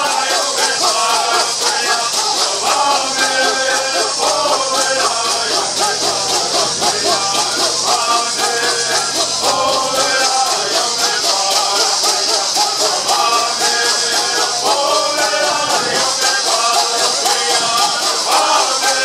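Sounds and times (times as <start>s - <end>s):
gourd rattles shaking: 0.0s - 19.0s
men singing in unison: 0.0s - 19.0s.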